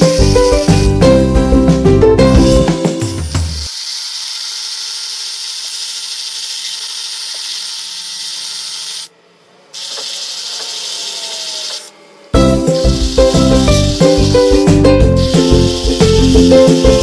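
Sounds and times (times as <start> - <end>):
power tool whining: 2.3 - 17.0.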